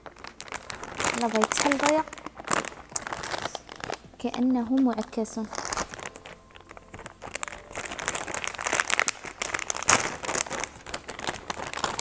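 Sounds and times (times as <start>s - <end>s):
plastic bag crinkling: 0.0s - 12.0s
sharp plastic crackle: 0.0s - 12.0s.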